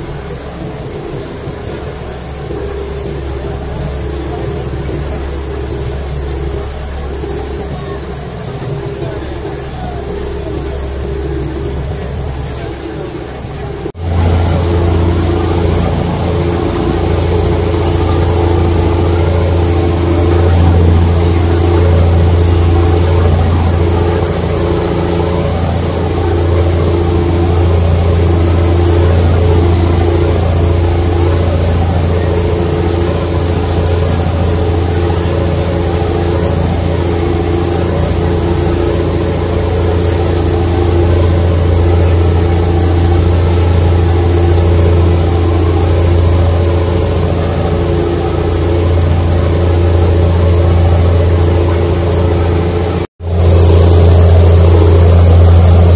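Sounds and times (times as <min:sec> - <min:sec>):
ferry engine droning: 0:00.0 - 0:55.9
steady hiss: 0:00.0 - 0:55.9.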